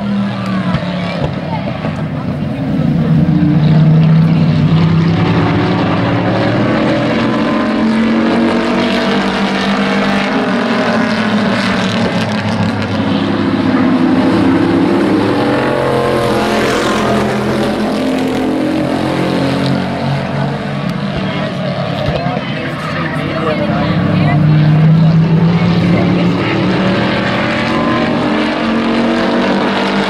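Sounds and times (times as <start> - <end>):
race truck engines passing: 0.0 - 30.0.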